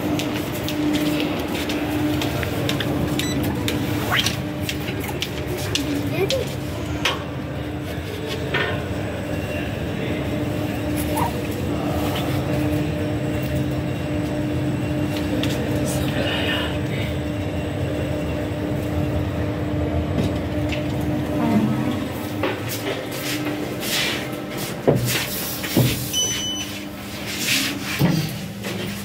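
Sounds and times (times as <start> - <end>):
lift rumbling and humming: 0.0 - 29.0.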